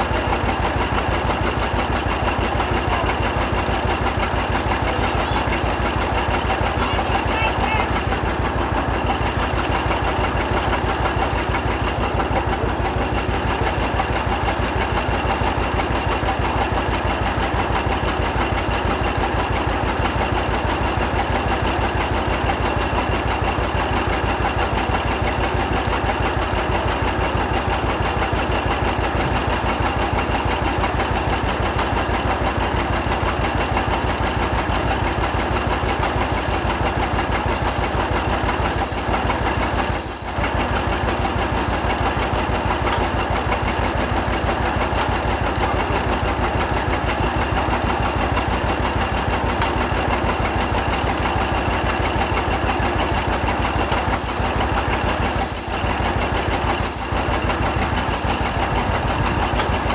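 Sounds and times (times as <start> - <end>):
two-cylinder tractor engine running: 0.0 - 59.9.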